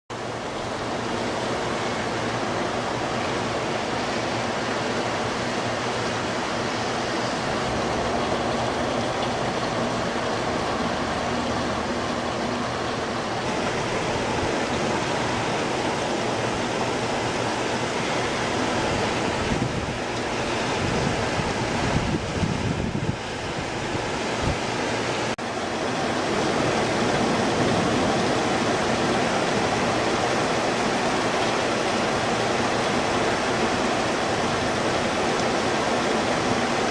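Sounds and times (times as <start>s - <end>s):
torrential rain hissing: 0.1s - 36.9s.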